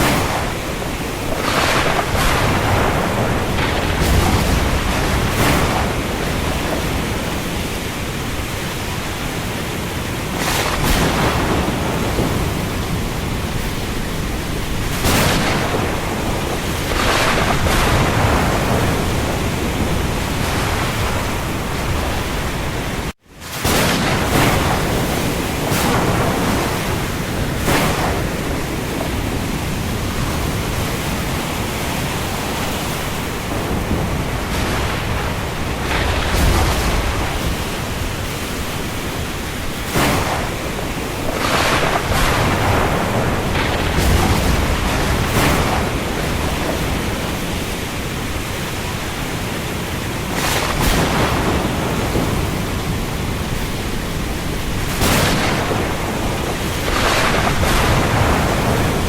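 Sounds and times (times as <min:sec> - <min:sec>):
heavy rain on sea: 0:00.0 - 0:59.0
wind: 0:00.0 - 0:59.0.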